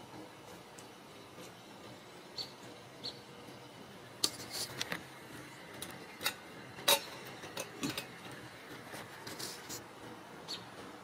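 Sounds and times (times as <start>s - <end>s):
kittens eating from metal bowls: 0.1s - 9.9s.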